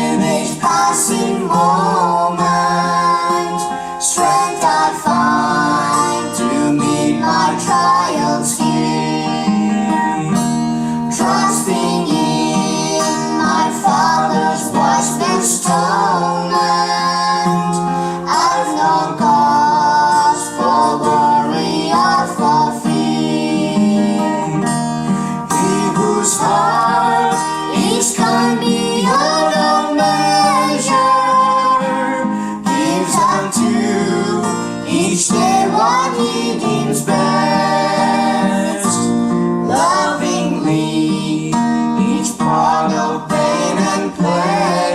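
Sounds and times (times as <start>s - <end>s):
woman singing: 0.0s - 10.4s, 11.1s - 24.6s, 25.5s - 39.1s, 39.7s - 44.9s
acoustic guitar: 0.0s - 44.9s
people singing a hymn: 0.0s - 44.9s.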